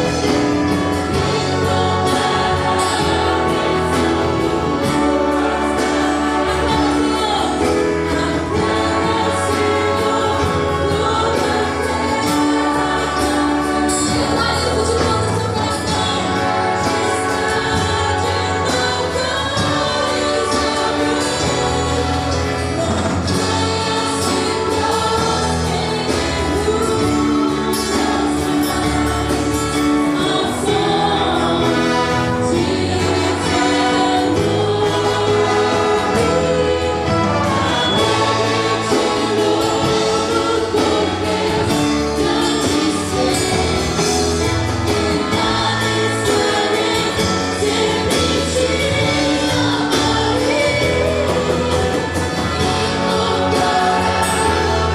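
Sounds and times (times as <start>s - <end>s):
group singing a hymn: 0.0s - 54.9s
sustained instrumental accompaniment: 0.0s - 54.9s.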